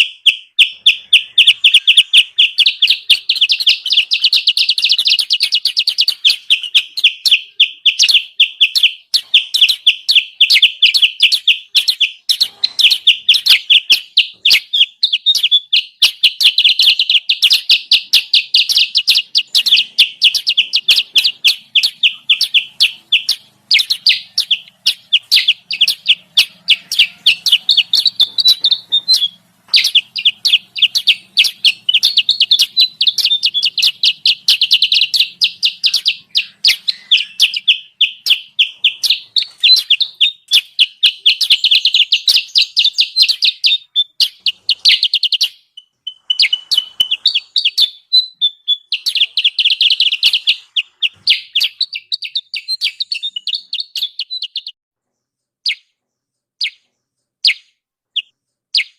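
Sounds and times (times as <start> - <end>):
bird chattering chirps: 0.0 - 54.8, 55.6 - 58.9.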